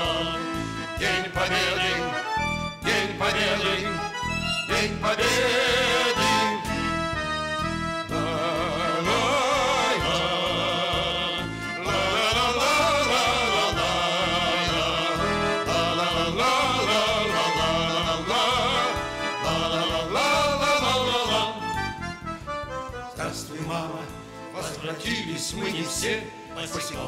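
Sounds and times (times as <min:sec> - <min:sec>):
folk ensemble with accordion: 0:00.0 - 0:27.0.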